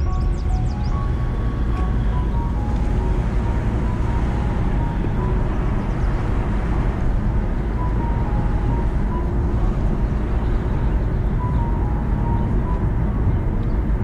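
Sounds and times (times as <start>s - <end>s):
car interior road rumble: 0.0s - 14.0s
faint music: 0.0s - 14.0s.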